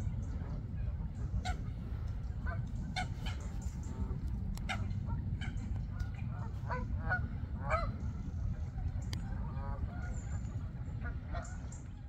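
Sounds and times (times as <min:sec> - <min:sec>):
low rumble: 0:00.0 - 0:12.0
waterfowl calling: 0:00.0 - 0:12.0.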